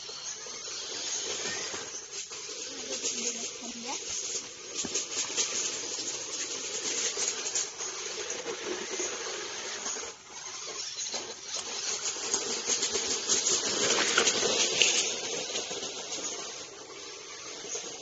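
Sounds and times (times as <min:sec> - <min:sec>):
toy truck motor running: 0:00.0 - 0:18.0
tyres crunching over leaves: 0:00.1 - 0:18.0.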